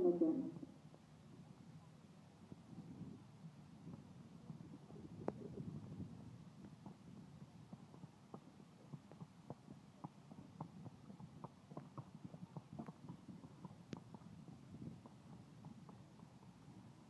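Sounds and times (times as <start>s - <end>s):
horse hoofbeats on soft footing: 2.4s - 17.0s.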